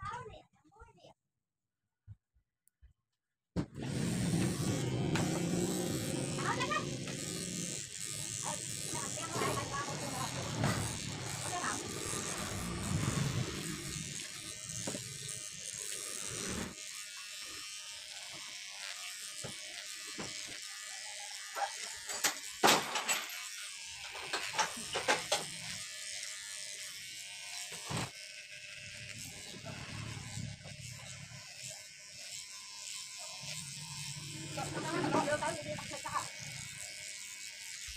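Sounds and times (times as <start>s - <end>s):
electric hair clippers running: 3.6s - 37.9s.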